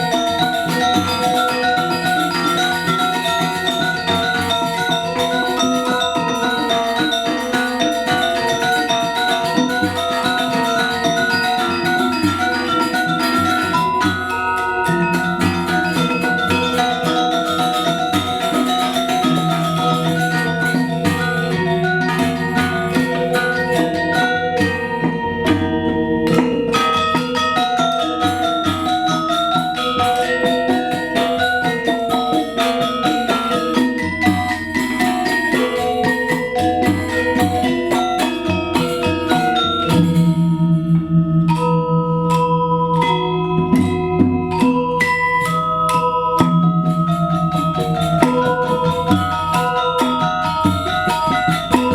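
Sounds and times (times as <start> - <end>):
gamelan metallophones ringing: 0.0 - 51.9.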